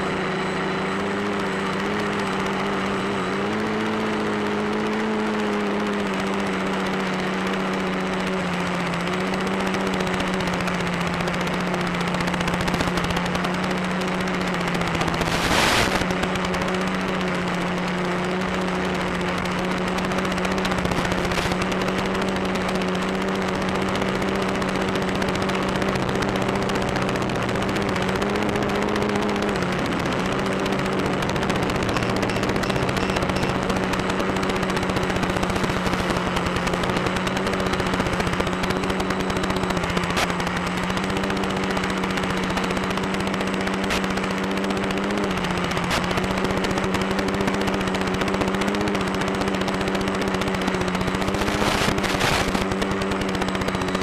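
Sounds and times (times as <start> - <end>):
drone motor droning hum: 0.0 - 54.0.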